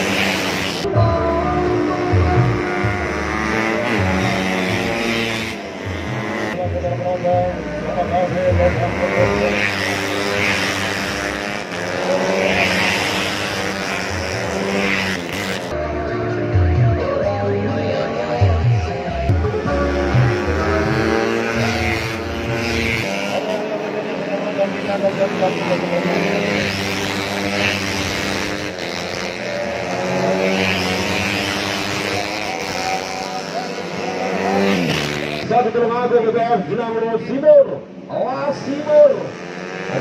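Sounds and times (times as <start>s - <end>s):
motorcycles revving past: 0.0s - 35.9s, 37.8s - 40.0s.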